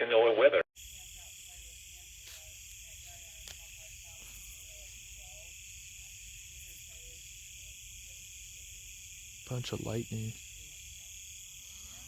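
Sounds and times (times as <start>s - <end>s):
crickets trilling: 0.8s - 12.0s.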